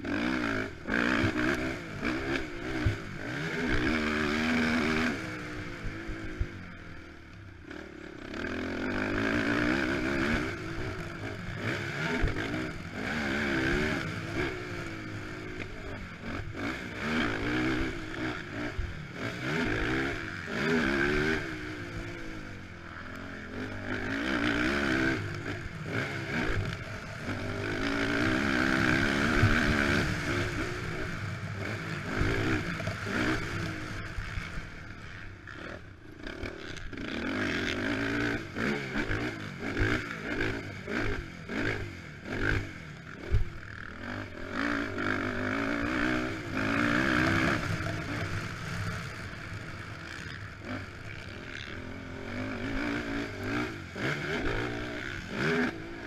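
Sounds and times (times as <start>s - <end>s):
quad engine revving: 0.0s - 7.0s, 7.6s - 56.0s.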